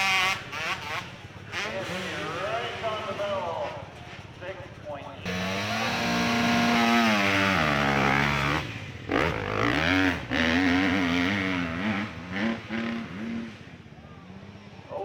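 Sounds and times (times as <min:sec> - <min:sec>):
motorcycle engine revving: 0:00.0 - 0:03.4, 0:05.3 - 0:14.9.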